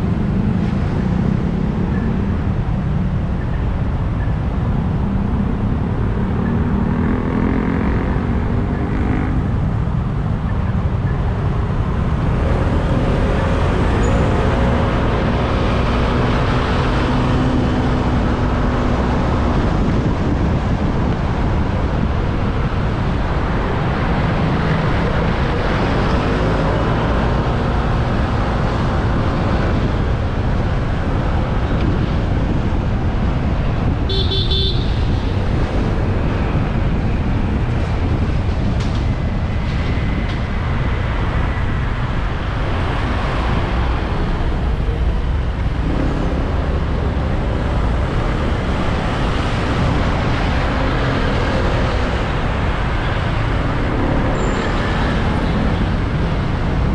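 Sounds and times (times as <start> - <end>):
wind and road noise: 0.0 - 56.9.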